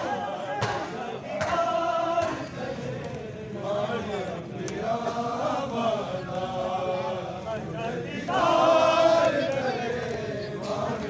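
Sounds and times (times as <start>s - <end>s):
men chanting a dirge: 0.0s - 11.0s.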